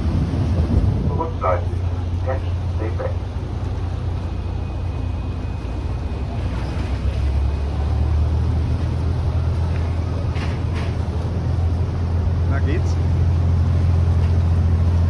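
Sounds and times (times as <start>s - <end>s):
ship engines rumbling: 0.0s - 15.0s.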